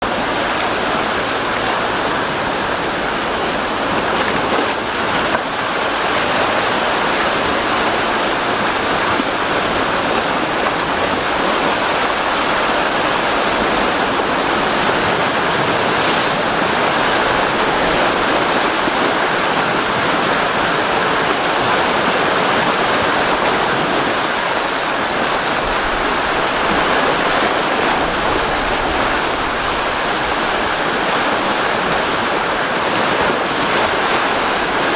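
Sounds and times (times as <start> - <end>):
strong wind: 0.0 - 34.9
surf rushing: 0.0 - 34.9.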